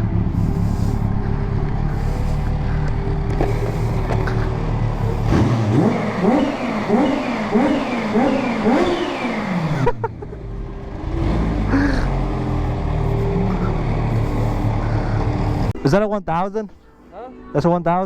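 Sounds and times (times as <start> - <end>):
motorcycle engine idling and revving: 0.0 - 15.8.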